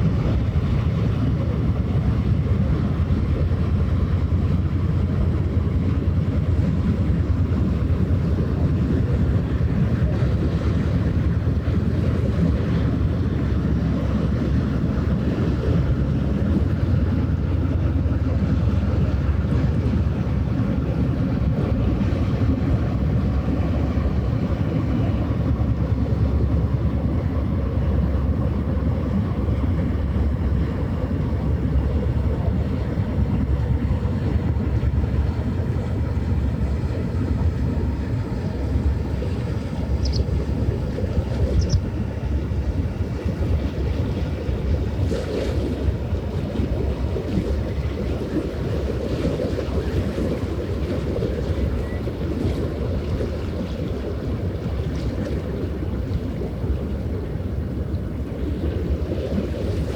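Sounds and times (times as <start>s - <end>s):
boat engine rumble: 0.0s - 59.9s
water washing: 0.0s - 59.9s
wind buffeting microphone: 0.0s - 59.9s.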